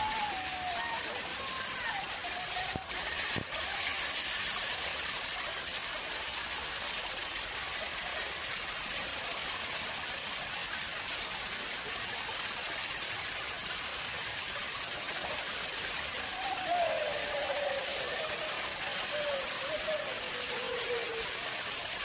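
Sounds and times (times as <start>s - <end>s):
water splashing into pond: 0.0s - 22.0s.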